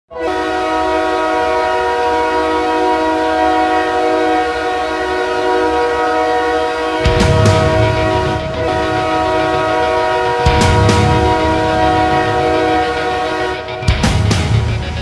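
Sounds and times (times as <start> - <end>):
hockey goal horn: 0.1 - 14.1.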